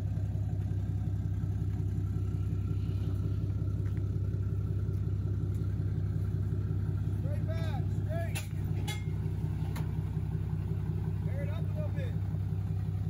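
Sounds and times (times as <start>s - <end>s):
pickup engine rumbling: 0.0s - 13.0s.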